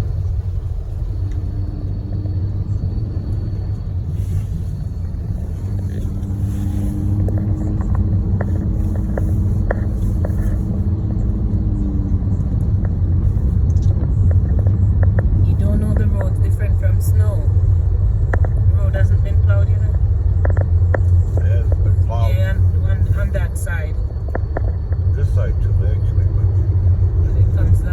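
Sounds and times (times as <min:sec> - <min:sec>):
car engine and tyre rumble: 0:00.0 - 0:27.9.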